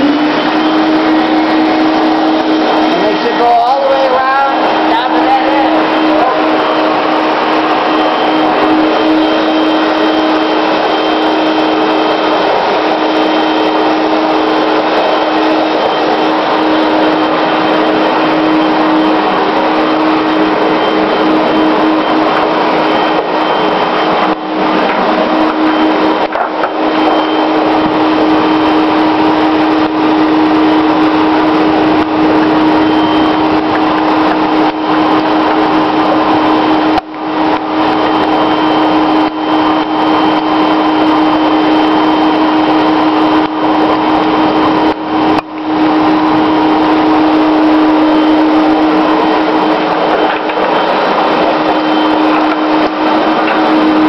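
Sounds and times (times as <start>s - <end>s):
rushing air: 0.0s - 54.0s
vacuum cleaner running: 0.0s - 54.0s.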